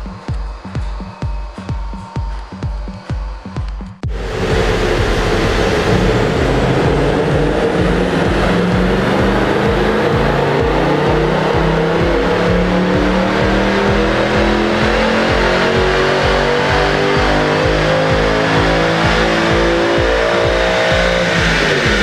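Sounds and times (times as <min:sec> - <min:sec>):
car engine revving at full throttle: 0:04.0 - 0:22.0.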